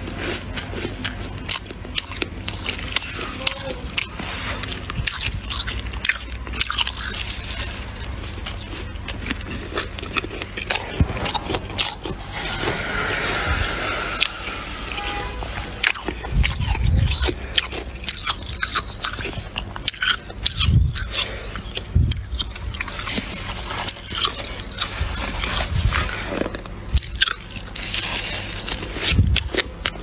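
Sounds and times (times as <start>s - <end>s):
chewing crunchy frost: 0.0s - 30.0s.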